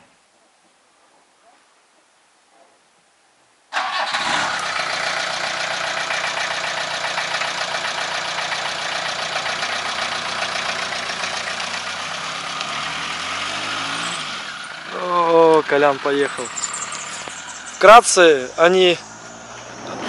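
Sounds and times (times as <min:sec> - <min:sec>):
van engine idling: 0:03.8 - 0:20.0.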